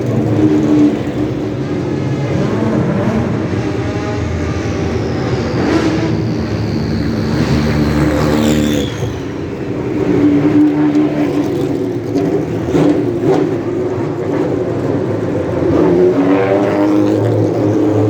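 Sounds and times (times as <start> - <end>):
sports car engines revving: 0.0 - 18.0.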